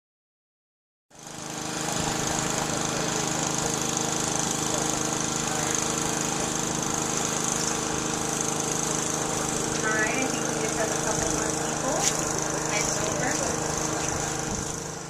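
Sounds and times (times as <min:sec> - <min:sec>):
engine running steadily: 0:01.2 - 0:15.0.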